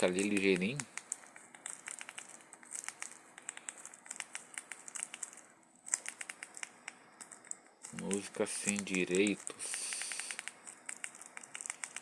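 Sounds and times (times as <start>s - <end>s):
faint steady hum: 0.0s - 12.0s
remote control buttons clicking: 0.0s - 12.0s.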